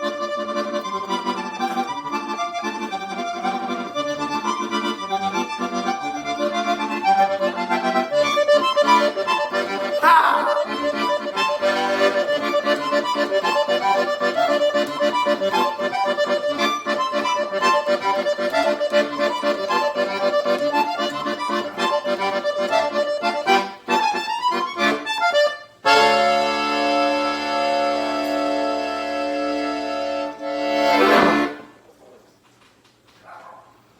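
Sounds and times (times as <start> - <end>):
accordion melody: 0.0 - 31.8.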